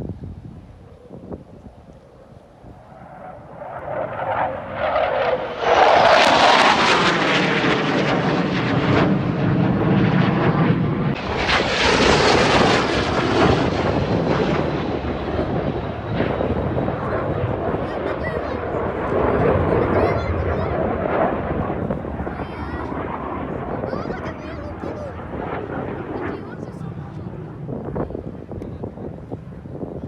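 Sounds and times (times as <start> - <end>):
fighter jet roaring past: 1.0 - 29.7.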